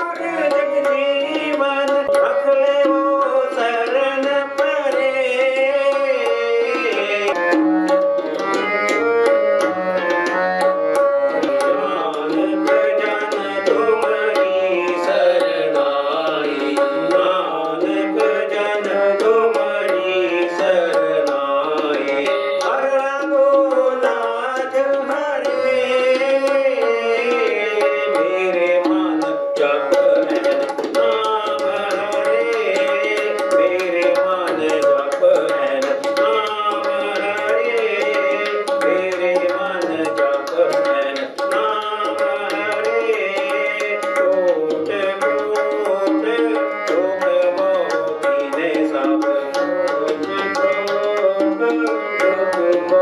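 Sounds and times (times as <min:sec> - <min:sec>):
harmoniums playing melody: 0:00.0 - 0:53.0
tabla: 0:00.0 - 0:53.0.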